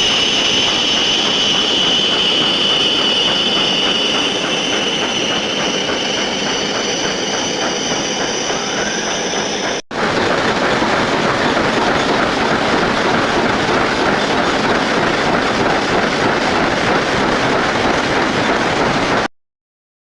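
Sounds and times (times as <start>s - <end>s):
metal lathe cutting: 0.0s - 19.2s.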